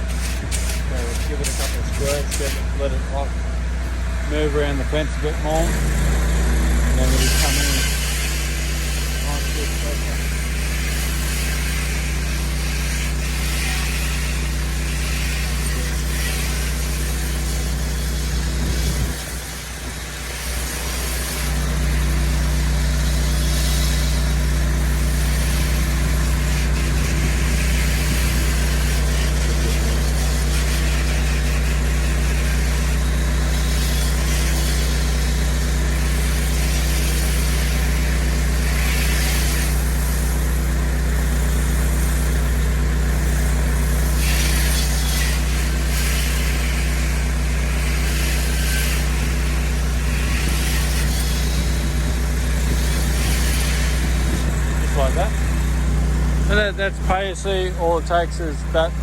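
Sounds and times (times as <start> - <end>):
water spray hissing: 0.0 - 2.8, 5.6 - 55.8
pressure washer engine running: 0.0 - 59.0.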